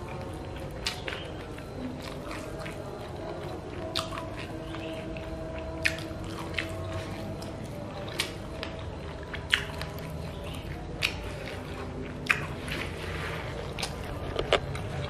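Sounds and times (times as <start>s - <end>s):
close chewing: 0.0s - 15.0s
steady low hum: 0.0s - 15.0s.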